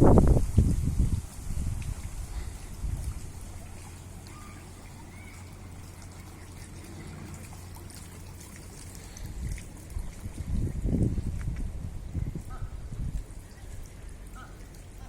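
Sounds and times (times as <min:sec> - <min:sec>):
low steady rumble: 0:00.0 - 0:15.0
water trickling: 0:00.0 - 0:15.0.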